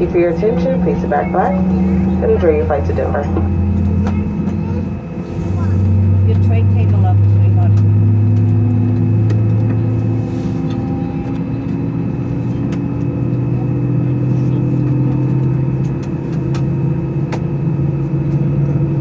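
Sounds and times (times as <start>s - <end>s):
jet engines humming in cabin: 0.0s - 19.0s.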